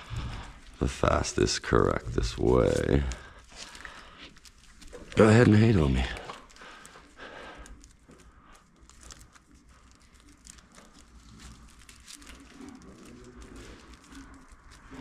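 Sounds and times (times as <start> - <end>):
wiring harness crinkling: 0.0 - 15.0.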